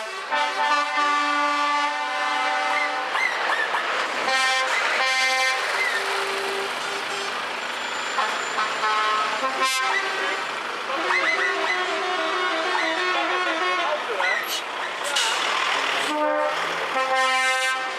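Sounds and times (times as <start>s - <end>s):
truck air horns blasting: 0.0s - 3.2s, 4.2s - 15.4s, 16.0s - 17.9s
trucks passing: 0.0s - 17.9s.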